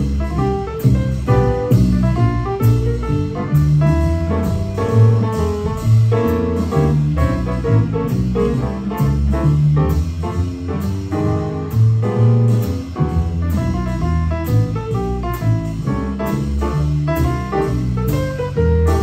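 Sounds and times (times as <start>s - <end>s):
piano chords: 0.0s - 19.0s
plucked double bass: 0.0s - 19.0s.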